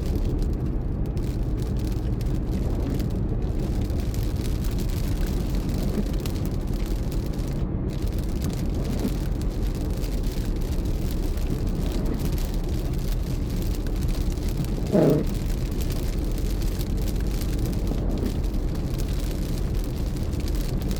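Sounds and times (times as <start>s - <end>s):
car engine and tyre noise: 0.0s - 20.9s.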